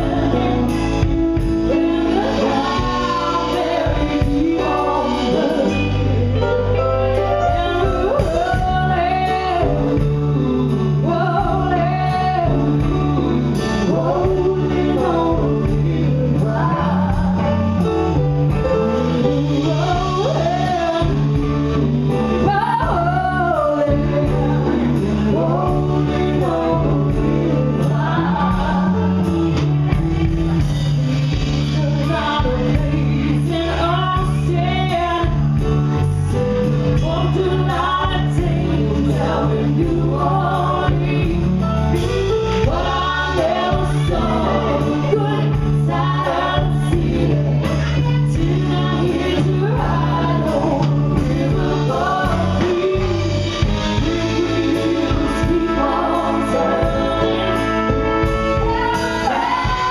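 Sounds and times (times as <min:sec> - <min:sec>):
bass: 0:00.0 - 0:59.9
drums: 0:00.0 - 0:59.9
vocals singing: 0:00.0 - 0:59.9
horns: 0:11.1 - 0:59.9.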